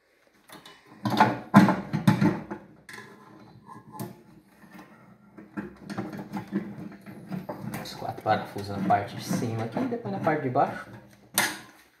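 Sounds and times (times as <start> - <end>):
metal clunks and rattling: 0.9 - 11.8.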